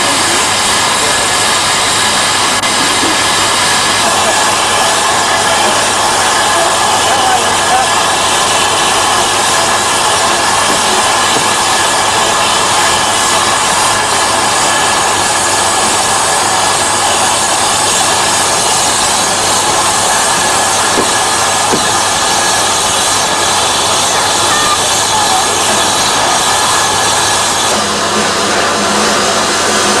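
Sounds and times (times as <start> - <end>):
train rail noise: 0.0 - 30.0.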